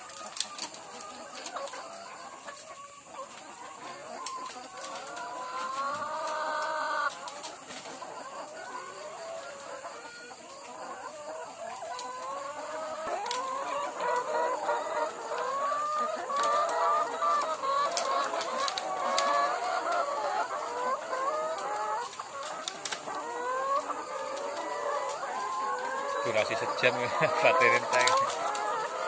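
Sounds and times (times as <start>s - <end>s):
hens clucking and squawking: 0.0s - 29.0s.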